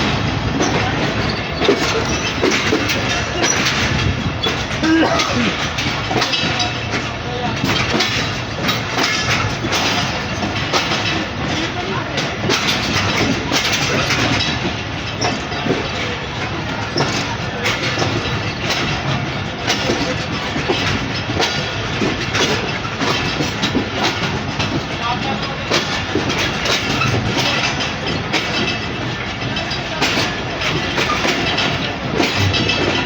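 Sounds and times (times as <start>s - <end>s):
train wheels clattering over rails: 0.0s - 33.0s.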